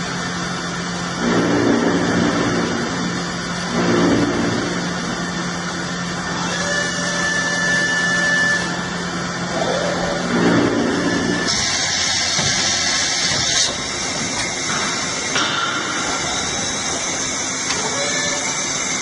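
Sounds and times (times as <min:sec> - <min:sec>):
milling machine running: 0:00.0 - 0:19.0.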